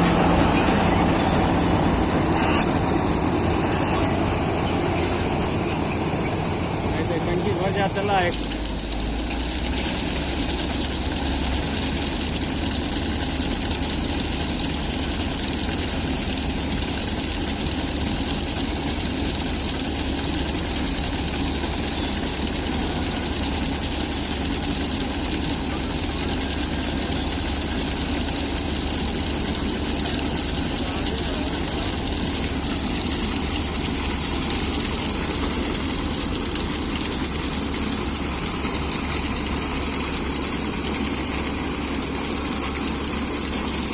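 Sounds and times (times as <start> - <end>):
combine harvester engine drone: 0.0 - 43.9.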